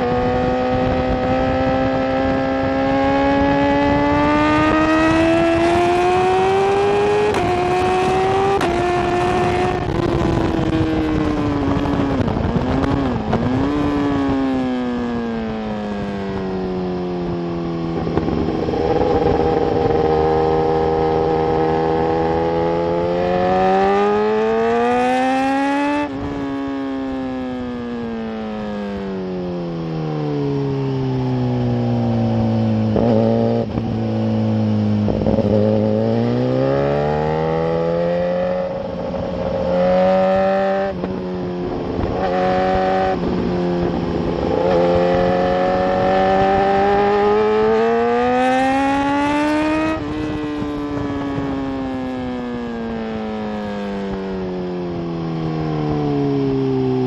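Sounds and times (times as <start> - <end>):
motorcycle engine: 0.0 - 57.0
wind noise: 0.0 - 57.0.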